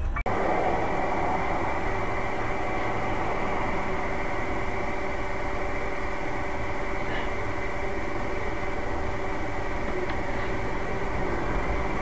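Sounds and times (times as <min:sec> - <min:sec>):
car engine and road noise: 0:00.3 - 0:12.0.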